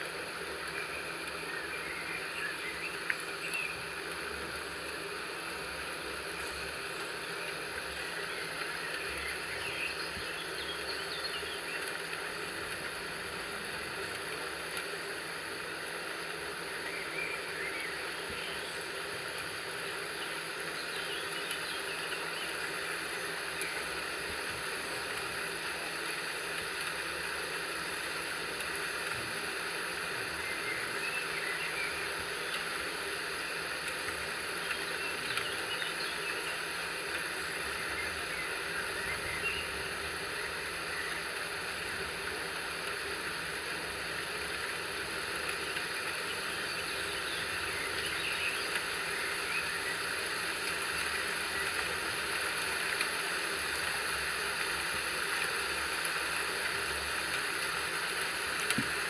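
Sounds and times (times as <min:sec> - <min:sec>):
rain-like hiss: 0:00.0 - 0:59.0.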